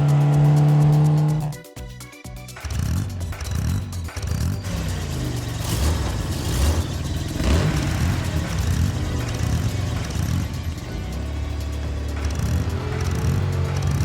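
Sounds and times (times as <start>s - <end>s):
cartoon engine revving: 0.0s - 1.6s, 2.7s - 14.0s.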